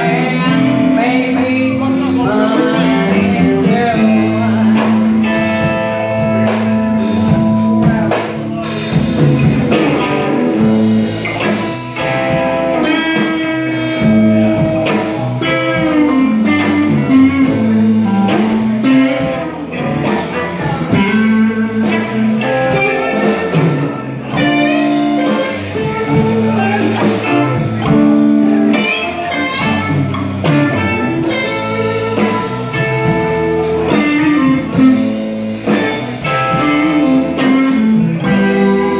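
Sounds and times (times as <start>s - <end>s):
bass: 0.0s - 38.9s
drum kit: 0.0s - 38.9s
electric guitar lead with bent notes: 0.0s - 38.9s.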